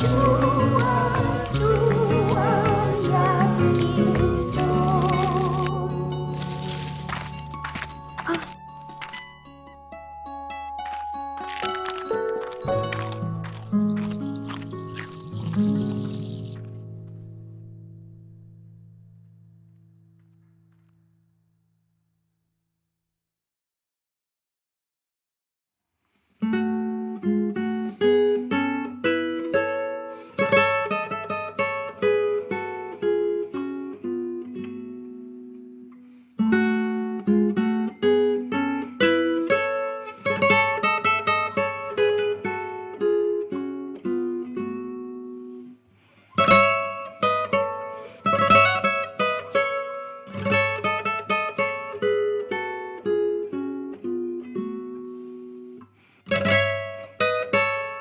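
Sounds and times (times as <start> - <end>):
acoustic guitar melody: 0.0 - 20.9, 26.4 - 58.0.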